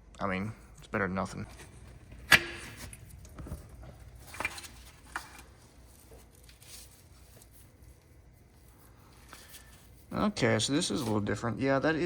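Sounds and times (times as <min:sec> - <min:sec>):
quiet rustling of handling: 0:00.5 - 0:11.6.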